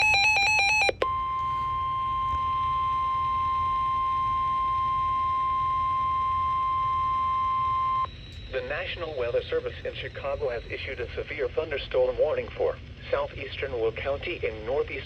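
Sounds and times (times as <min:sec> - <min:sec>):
steady warning tone: 0:00.0 - 0:15.0.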